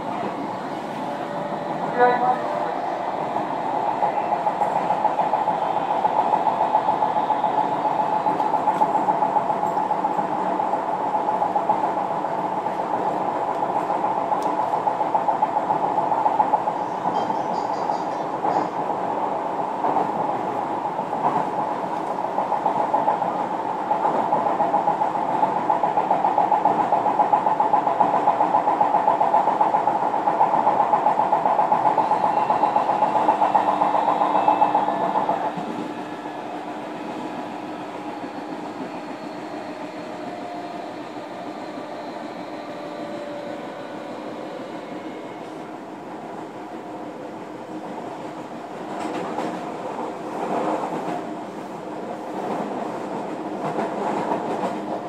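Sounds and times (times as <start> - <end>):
electric train running noise: 0.0 - 55.0.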